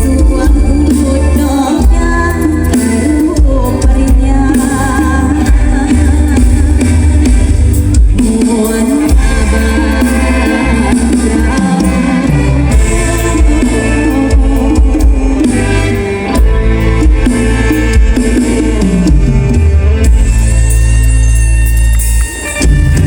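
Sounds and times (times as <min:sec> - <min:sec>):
person singing: 0:00.0 - 0:07.2, 0:08.1 - 0:20.2
drums: 0:00.0 - 0:23.0
heavy bass: 0:00.0 - 0:23.0
live band music: 0:00.0 - 0:23.0.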